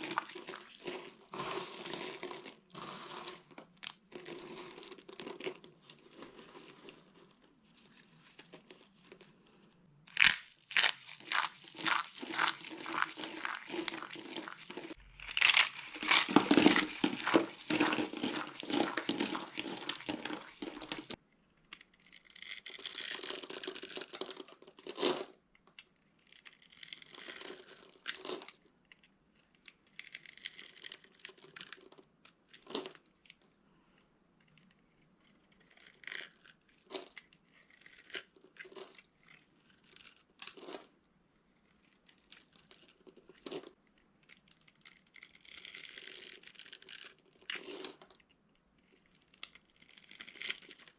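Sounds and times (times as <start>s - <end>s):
soap crunching and crackling: 0.0s - 33.5s, 34.4s - 50.9s.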